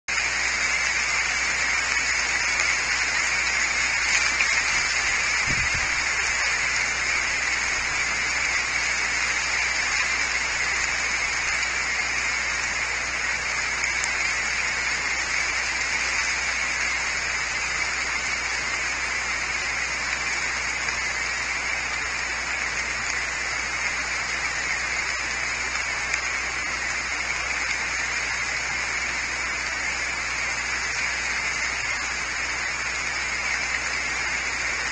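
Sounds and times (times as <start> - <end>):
rain falling on leafy trees: 0.1 - 34.9.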